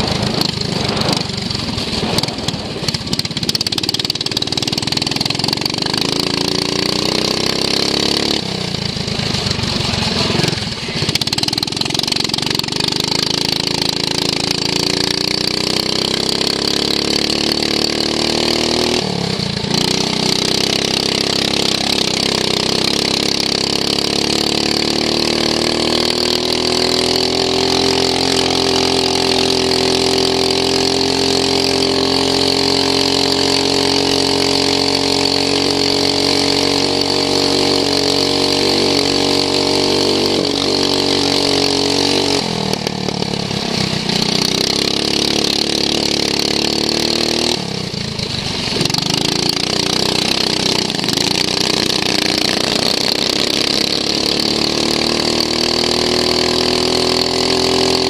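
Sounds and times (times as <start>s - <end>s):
lawn mower engine at race pace: 0.0s - 58.0s
wind: 0.0s - 58.0s.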